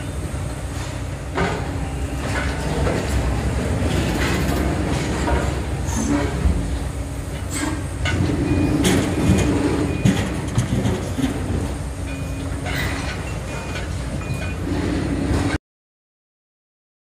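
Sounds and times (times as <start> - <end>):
excavator engines droning: 0.0 - 15.6.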